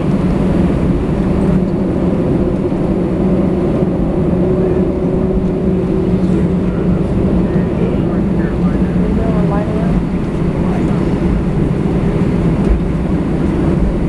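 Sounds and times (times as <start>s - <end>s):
jet engine drone in cabin: 0.0s - 14.0s.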